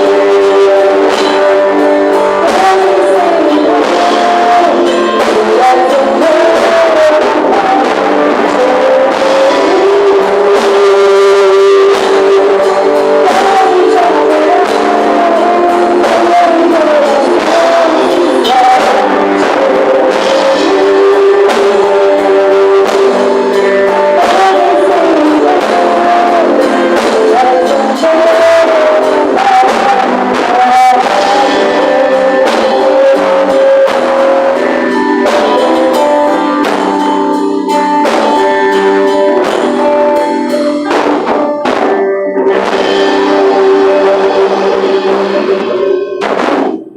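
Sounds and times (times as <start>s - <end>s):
drum kit: 0.0s - 46.9s
guitar: 0.0s - 46.9s
person singing: 0.0s - 46.9s.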